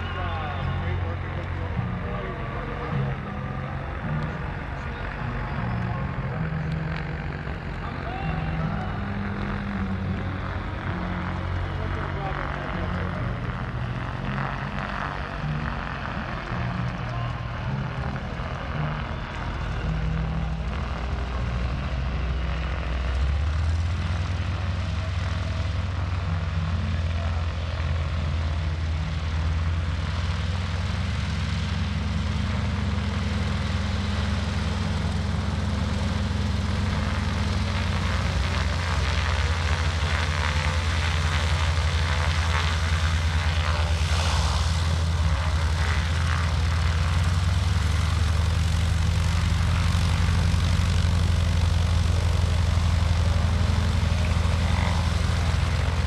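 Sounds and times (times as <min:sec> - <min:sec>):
propeller plane engine at low power: 0:00.0 - 0:56.0.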